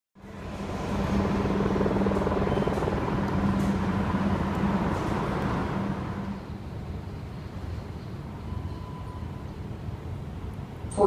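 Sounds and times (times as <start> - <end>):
steady mechanical hum: 0.2 - 11.0.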